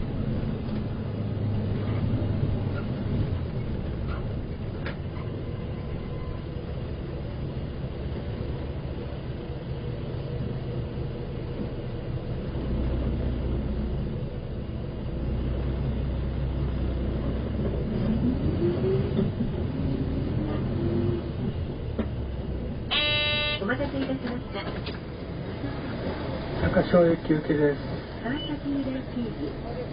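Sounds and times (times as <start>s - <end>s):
bus diesel engine running: 0.0s - 29.9s.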